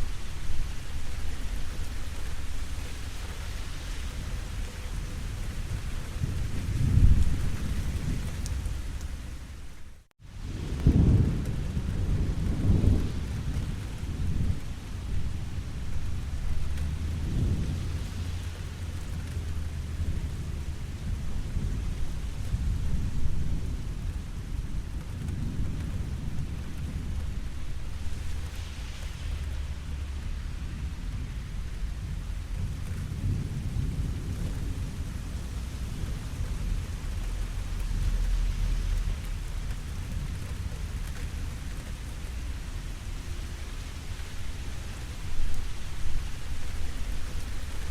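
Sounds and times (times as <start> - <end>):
low rumble of thunder: 0.0 - 47.9
steady rain falling: 0.0 - 47.9.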